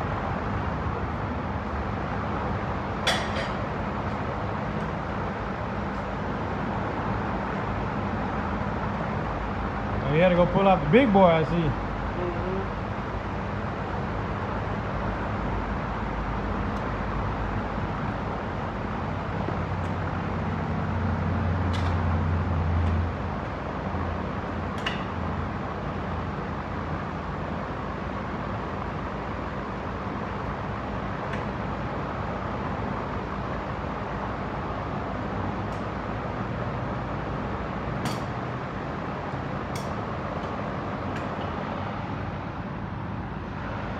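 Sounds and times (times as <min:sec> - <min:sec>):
low workshop hum: 0:00.0 - 0:43.9.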